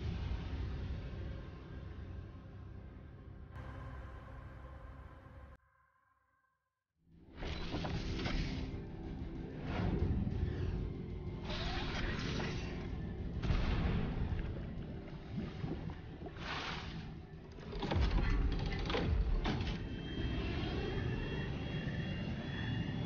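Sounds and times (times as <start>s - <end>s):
background music: 0.0s - 5.6s, 7.1s - 23.0s.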